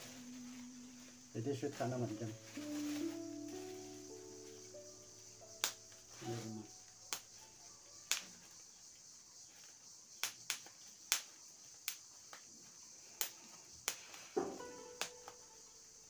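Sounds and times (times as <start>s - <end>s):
faint high hiss: 0.0s - 16.0s.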